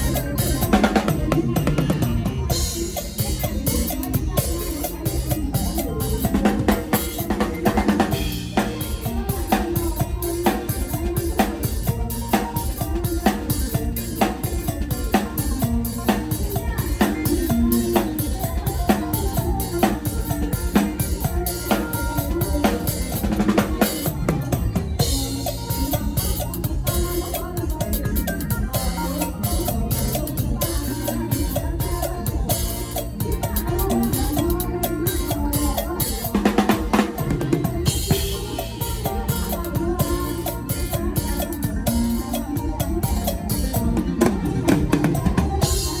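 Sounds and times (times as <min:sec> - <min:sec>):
band with bass and melody: 0:00.0 - 0:46.0
drum kit playing driving groove: 0:00.0 - 0:46.0.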